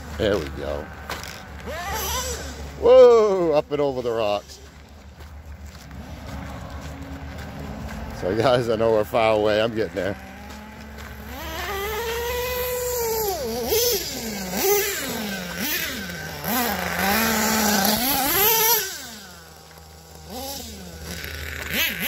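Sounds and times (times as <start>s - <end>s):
nitro engine revving: 0.0s - 22.0s.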